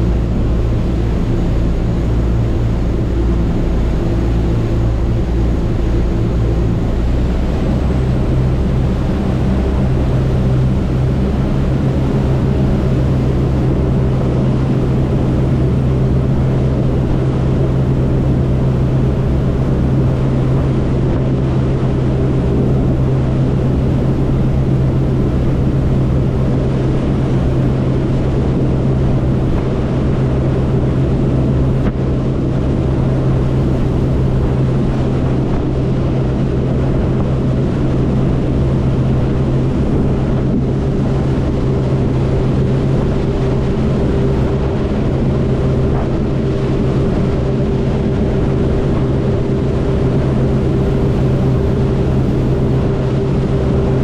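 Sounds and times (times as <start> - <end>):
churning wake rushing: 0.0 - 54.0
marine diesel engines droning: 0.0 - 54.0.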